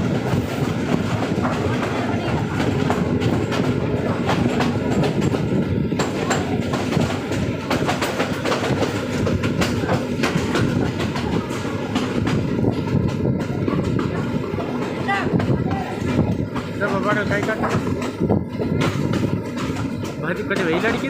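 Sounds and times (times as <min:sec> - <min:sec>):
train carriages rumbling: 0:00.0 - 0:21.0
wheels clicking over rails: 0:00.0 - 0:21.0.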